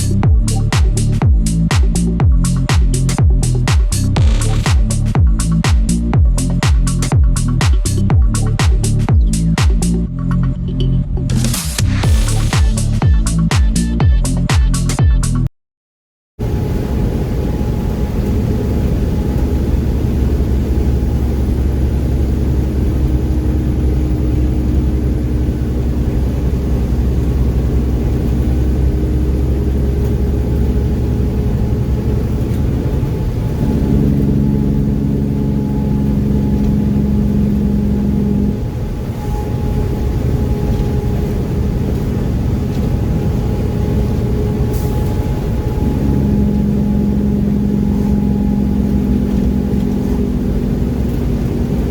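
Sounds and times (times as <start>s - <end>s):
truck diesel engine drone: 0.0s - 15.4s, 16.4s - 51.9s.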